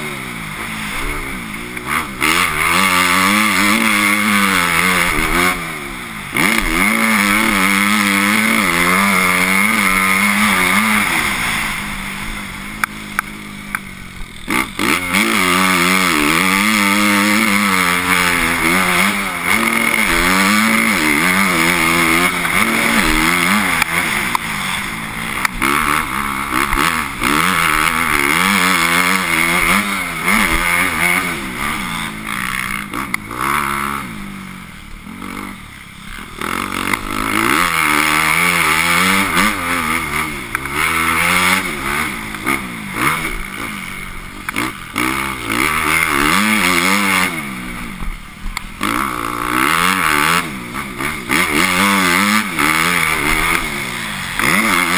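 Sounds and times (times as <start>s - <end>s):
motocross bike engine revving: 0.0s - 54.9s.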